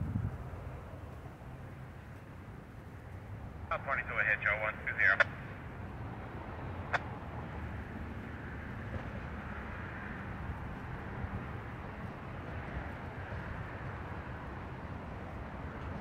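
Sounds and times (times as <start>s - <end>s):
diesel locomotive engine rumbling: 0.0s - 16.0s.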